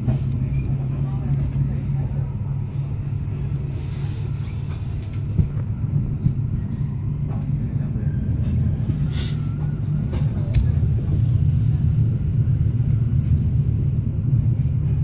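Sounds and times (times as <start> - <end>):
train running from inside carriage: 0.0 - 15.0.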